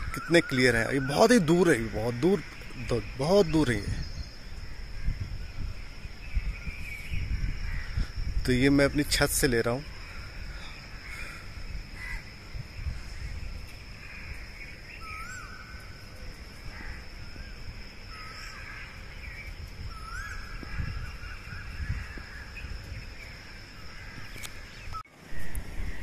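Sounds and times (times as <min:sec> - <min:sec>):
wind rumble on microphone: 0:00.0 - 0:00.3, 0:01.3 - 0:26.0
birds faintly calling: 0:00.0 - 0:26.0.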